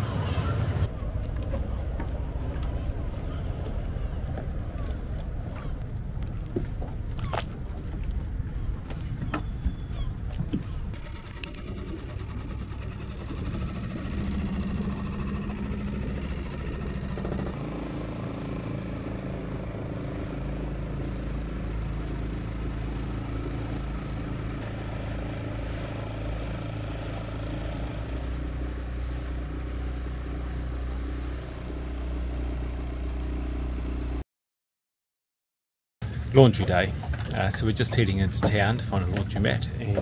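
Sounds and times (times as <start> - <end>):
outboard motor running: 0.0 - 34.2.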